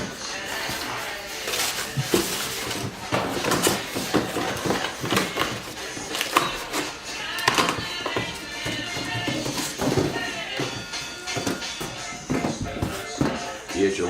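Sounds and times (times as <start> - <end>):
cardboard and plastic packaging handled: 0.0 - 13.8.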